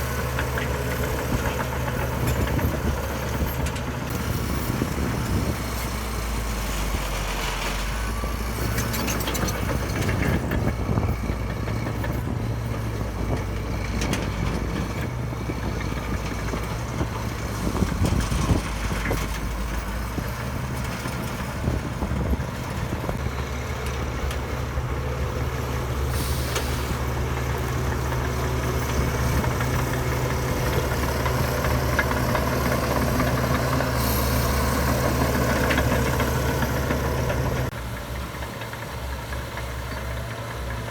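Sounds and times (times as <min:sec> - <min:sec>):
diesel machinery running: 0:00.0 - 0:40.9.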